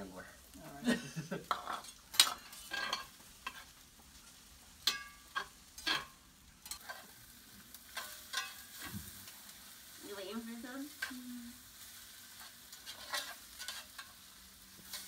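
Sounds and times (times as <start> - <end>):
light sizzle of frying: 0.0 - 15.0
spatula scraping a skillet: 1.2 - 15.0.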